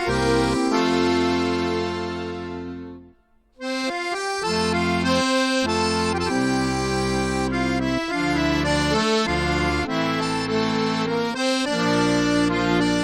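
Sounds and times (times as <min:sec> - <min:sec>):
accordion music: 0:00.0 - 0:13.0.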